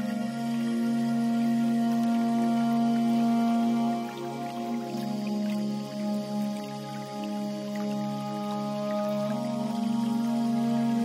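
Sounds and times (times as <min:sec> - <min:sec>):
calm new-age music: 0:00.0 - 0:11.0.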